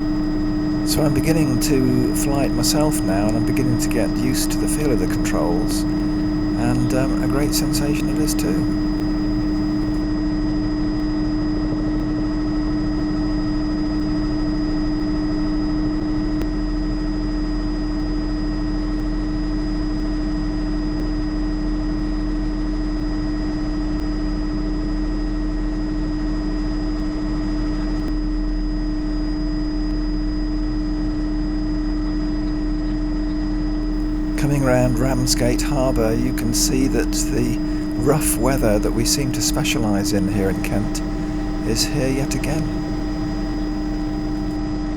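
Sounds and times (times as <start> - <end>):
helicopter drone and whine: 0.0 - 44.9.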